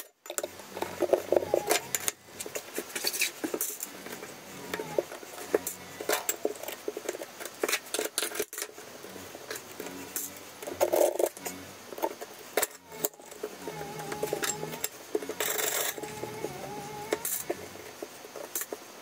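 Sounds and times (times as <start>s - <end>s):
tiles clicking and scraping: 0.0s - 18.9s.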